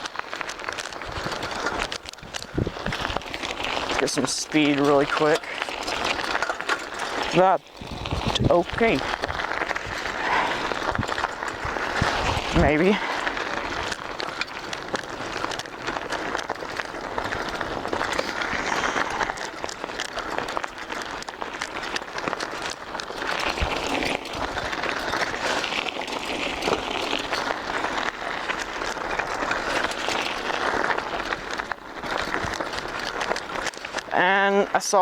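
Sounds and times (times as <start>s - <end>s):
bicycle tyres crunching on dirt road: 0.0s - 35.0s.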